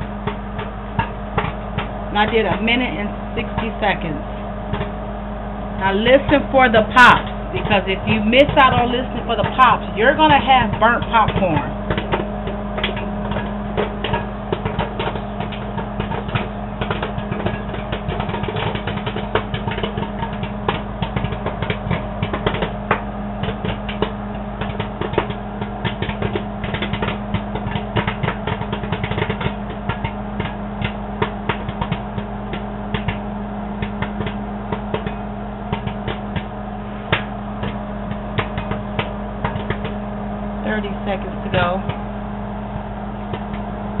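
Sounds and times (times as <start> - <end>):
popcorn popping: 0.0 - 5.1, 5.8 - 44.0
microwave oven hum: 0.0 - 44.0.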